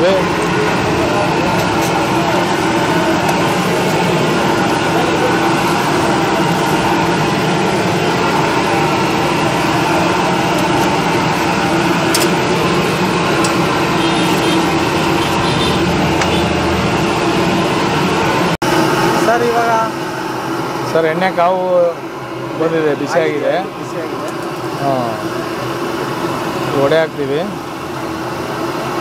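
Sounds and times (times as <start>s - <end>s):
mechanical rumble and hum: 0.0s - 29.0s.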